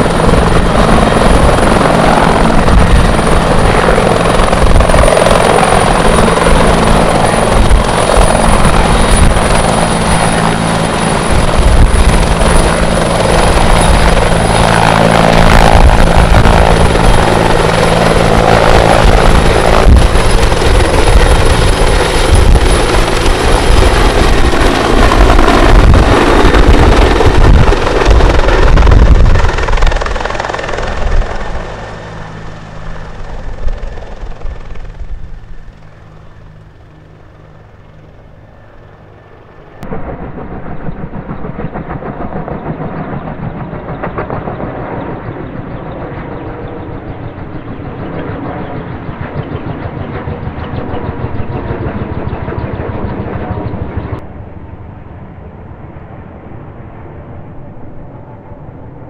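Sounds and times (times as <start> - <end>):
helicopter rotor noise: 0.0 - 59.0
high turbine whine: 0.0 - 59.0.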